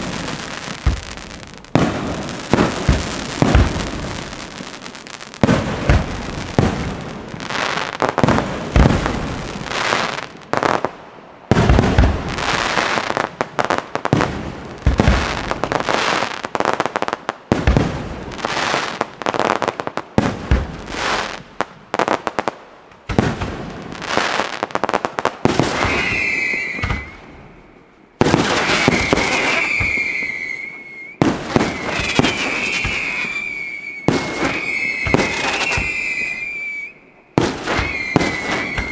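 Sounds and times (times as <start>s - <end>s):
firework bangs: 0.0s - 38.9s
firework crackling: 0.0s - 38.9s
whistling fireworks: 0.0s - 38.9s.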